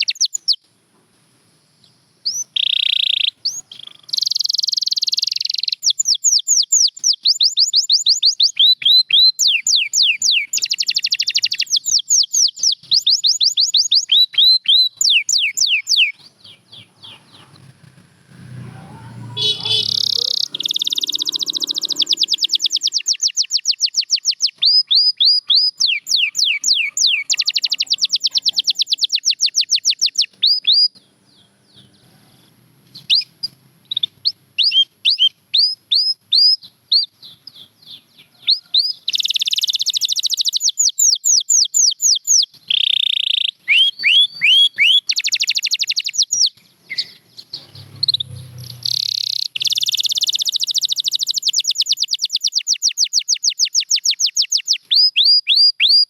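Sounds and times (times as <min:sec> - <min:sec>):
canary singing trills: 0:00.0 - 0:00.7, 0:01.8 - 0:56.0.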